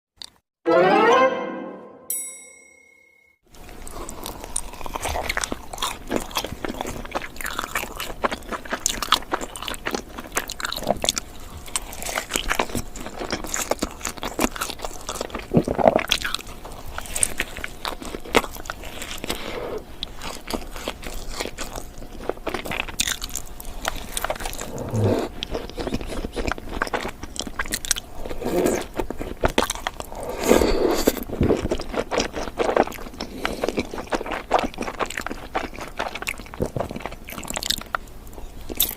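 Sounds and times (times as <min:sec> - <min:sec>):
biting and chewing donuts: 0:03.6 - 0:38.9.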